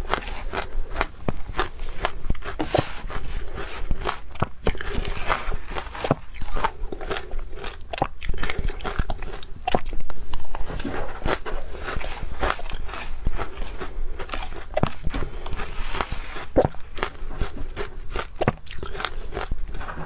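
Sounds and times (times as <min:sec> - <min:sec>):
crunching and chewing ice: 0:00.0 - 0:20.0.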